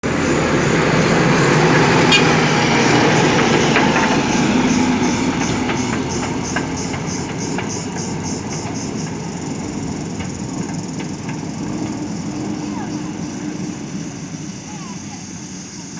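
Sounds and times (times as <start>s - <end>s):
diesel engine under load: 0.0s - 15.9s.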